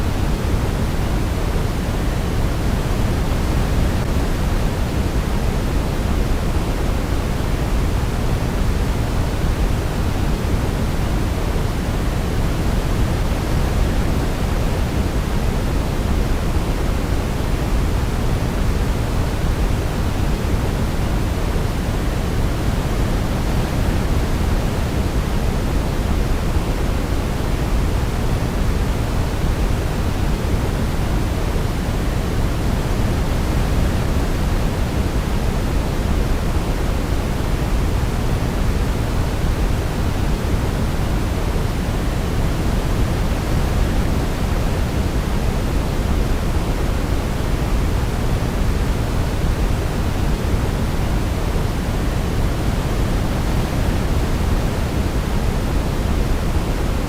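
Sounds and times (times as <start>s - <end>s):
deep steady synthetic noise: 0.0s - 57.0s.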